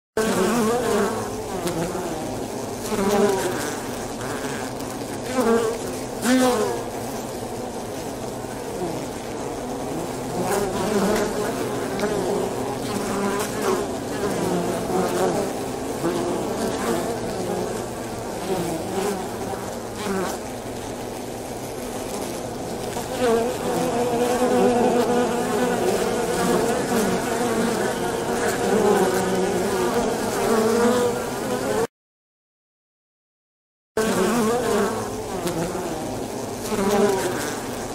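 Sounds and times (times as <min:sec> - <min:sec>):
wasps buzzing at nest: 0:00.2 - 0:31.9, 0:34.0 - 0:37.9.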